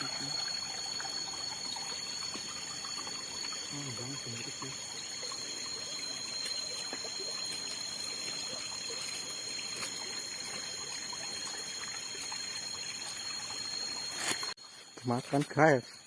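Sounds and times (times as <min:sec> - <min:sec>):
water trickling: 0:00.0 - 0:14.6
high-pitched whine: 0:00.0 - 0:16.0.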